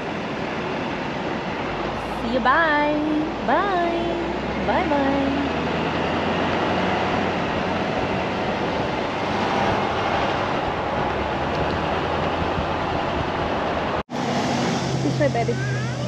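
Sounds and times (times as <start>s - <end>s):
road and wind noise: 0.0s - 16.0s
truck engine running: 1.6s - 16.0s.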